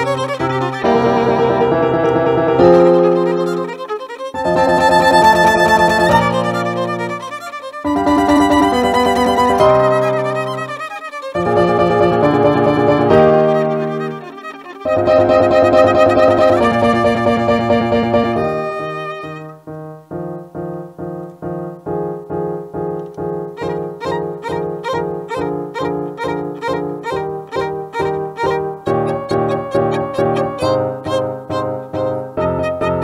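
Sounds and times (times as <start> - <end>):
violin: 0.0 - 19.9, 23.0 - 33.0
piano accompaniment: 0.0 - 33.0.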